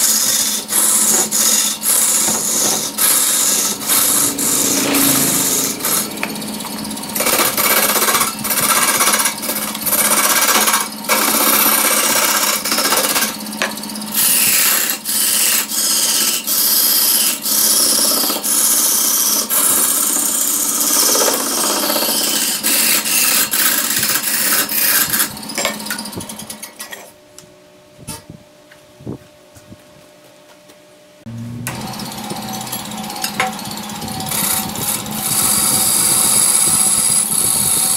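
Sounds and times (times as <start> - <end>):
lathe motor hum: 0.0 - 26.5, 31.3 - 37.9
chisel chipping spinning wood: 0.0 - 26.8, 31.7 - 37.9.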